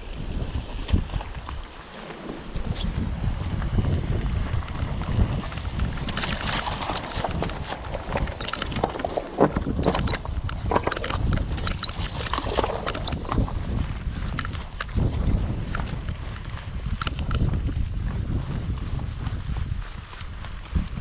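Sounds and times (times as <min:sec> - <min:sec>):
wind rumbling on microphone: 0:00.0 - 0:21.0
stones and gravel clattering: 0:00.6 - 0:17.7.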